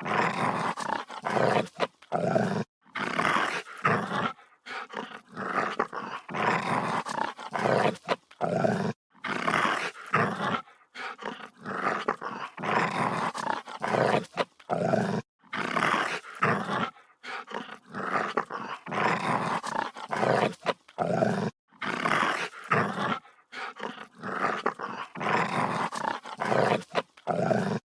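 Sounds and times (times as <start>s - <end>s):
dog growling and snarling: 0.0s - 27.9s.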